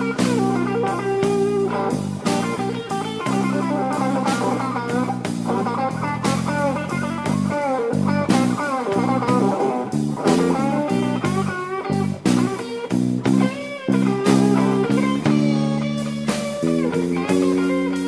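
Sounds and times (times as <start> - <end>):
bass guitar: 0.0 - 18.0
electric guitar lead lines: 0.0 - 18.0
slow drum beat: 0.0 - 18.0.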